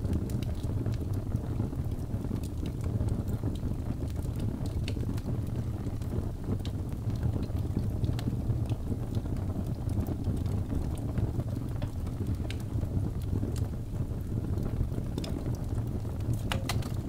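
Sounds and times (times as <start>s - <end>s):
fire crackling and popping: 0.0s - 17.0s
fire flames rushing: 0.0s - 17.0s.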